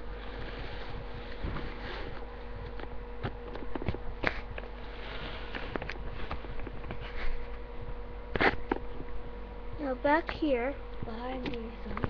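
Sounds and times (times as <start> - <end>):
steady thin hum: 0.0 - 12.0.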